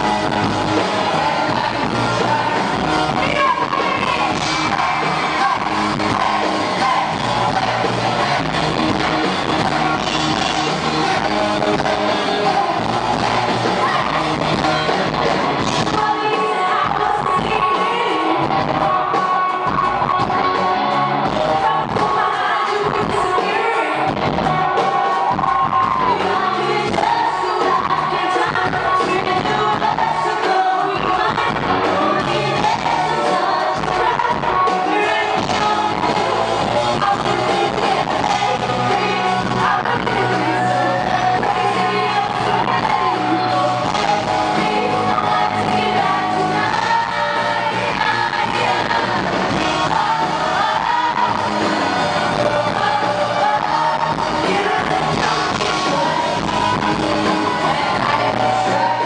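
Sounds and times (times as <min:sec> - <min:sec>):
drums: 0:00.0 - 0:59.0
electric guitars: 0:00.0 - 0:59.0
person singing: 0:00.0 - 0:59.0.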